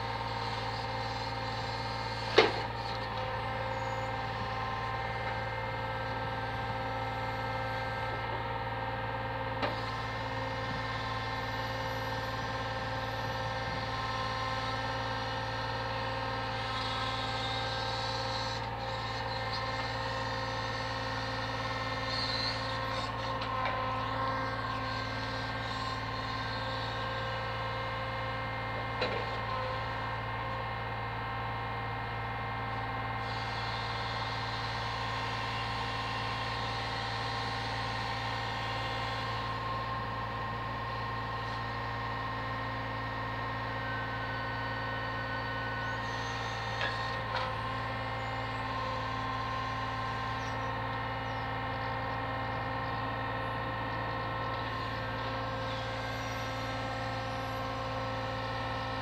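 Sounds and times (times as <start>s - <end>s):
hydraulic crane whine: 0.0s - 59.0s.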